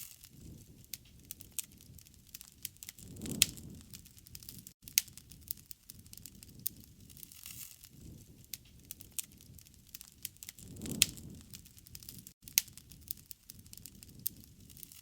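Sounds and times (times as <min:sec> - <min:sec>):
sharp pops of fire: 0:00.0 - 0:15.0
wood fire crackling: 0:00.0 - 0:15.0
low rumble of burning: 0:00.1 - 0:15.0.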